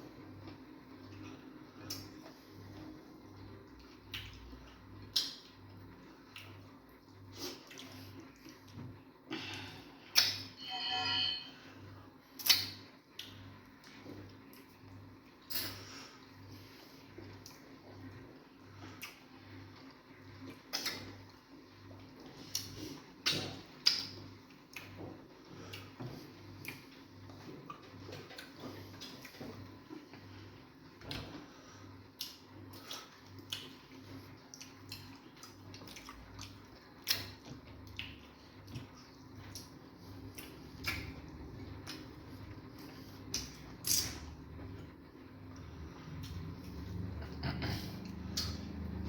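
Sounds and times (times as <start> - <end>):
mouths chewing and swallowing: 3.4 - 9.6, 12.4 - 48.8.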